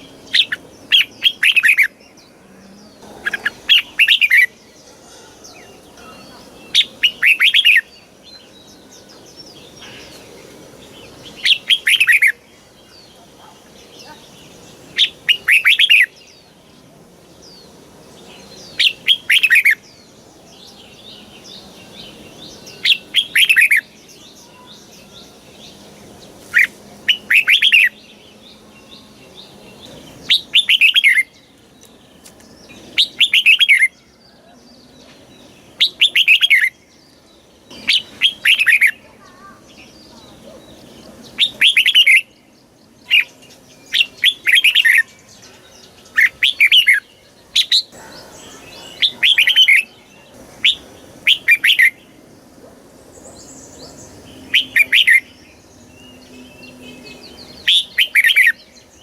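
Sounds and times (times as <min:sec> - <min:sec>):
bulbul singing rapid song: 0:00.0 - 0:59.0
faint bird chirps: 0:00.0 - 0:59.0.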